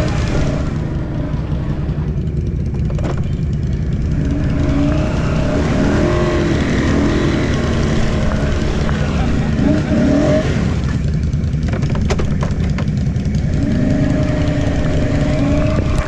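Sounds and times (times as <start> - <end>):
atv engine rumbling: 0.0 - 16.0.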